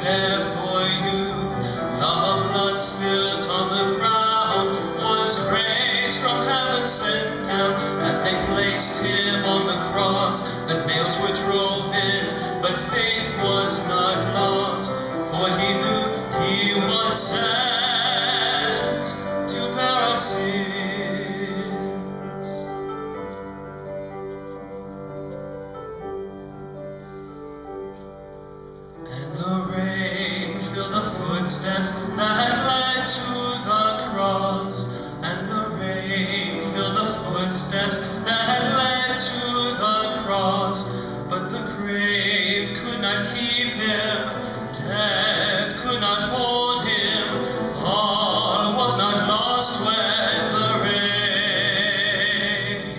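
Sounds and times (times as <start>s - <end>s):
person singing: 0.0s - 22.9s, 29.0s - 52.9s
instrumental accompaniment: 0.0s - 52.9s.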